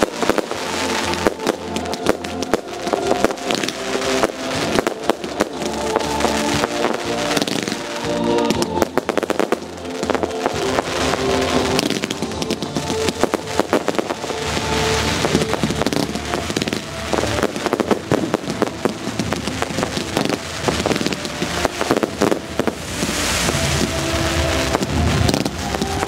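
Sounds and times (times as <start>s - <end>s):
fireworks bangs and pops: 0.0s - 26.0s
fireworks hissing crackle: 0.0s - 26.0s.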